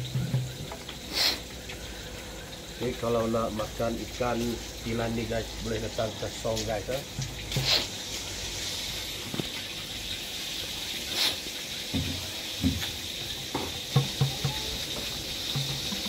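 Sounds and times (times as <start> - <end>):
water running from a hose: 0.0 - 16.0.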